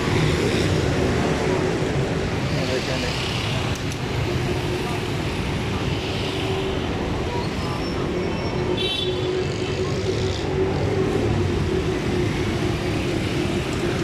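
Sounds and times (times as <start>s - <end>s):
passing vehicles: 0.0s - 14.0s.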